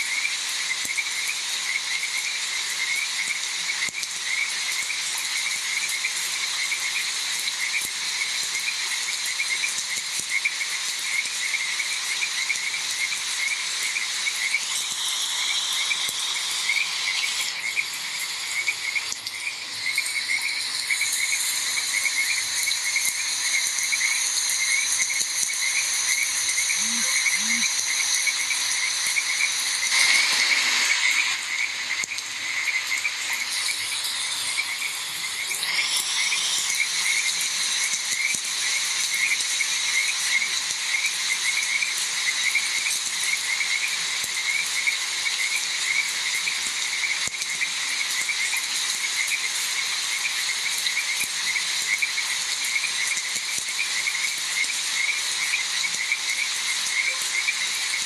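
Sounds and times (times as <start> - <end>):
high insect drone: 0.0 - 58.0
frogs croaking in chorus: 0.1 - 30.0, 31.0 - 58.0.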